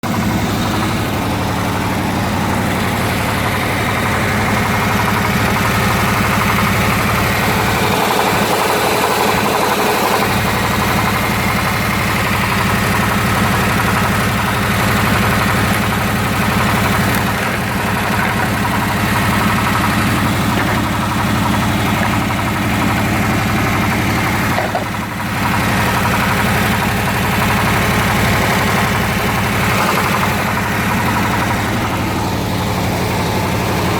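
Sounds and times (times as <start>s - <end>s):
car engine idling: 0.0s - 33.9s
engine knock: 0.0s - 33.9s.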